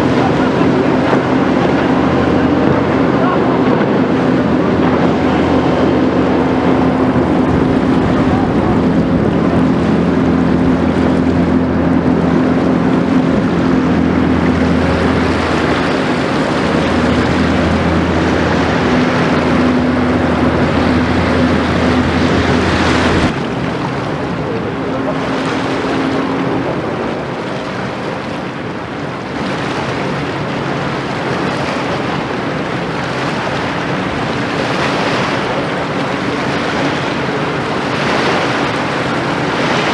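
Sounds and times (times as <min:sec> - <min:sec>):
faint distant boat engine hum: 0:00.0 - 0:39.9
speedboat engine running: 0:00.0 - 0:39.9
water lapping: 0:00.0 - 0:39.9
wind and water noise: 0:00.0 - 0:39.9.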